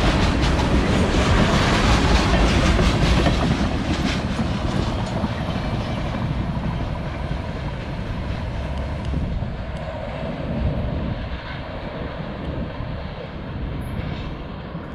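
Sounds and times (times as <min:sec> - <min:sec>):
freight train rumbling: 0:00.0 - 0:14.9.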